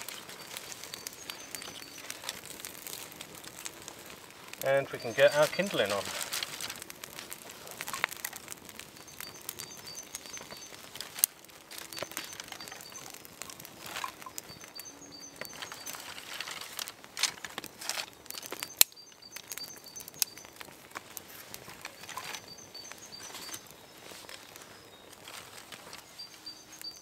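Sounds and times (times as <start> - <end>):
twigs snapping: 0.0 - 14.8, 15.4 - 26.1
small birds chirping: 0.0 - 27.0
twigs rustling and knocking: 0.0 - 27.0.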